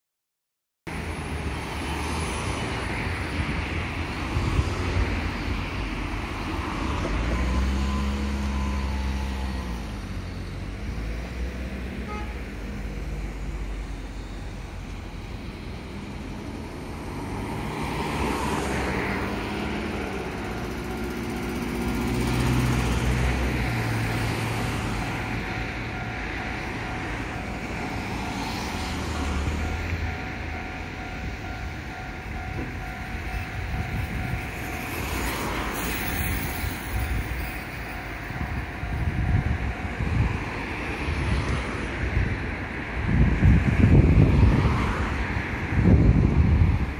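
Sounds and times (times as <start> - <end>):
vehicles passing with tyre noise: 0.9 - 46.9.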